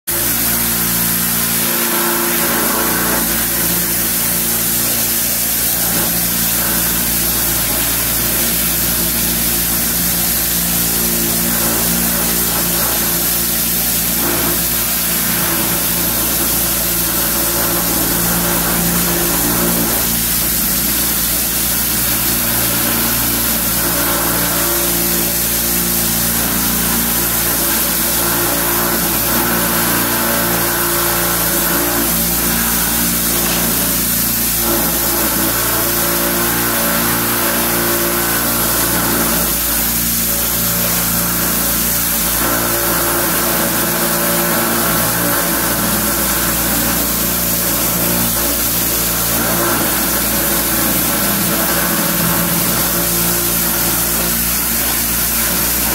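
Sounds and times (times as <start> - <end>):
pressure washer motor and pump: 0.0 - 55.9
water jet spraying on wall: 0.0 - 55.9.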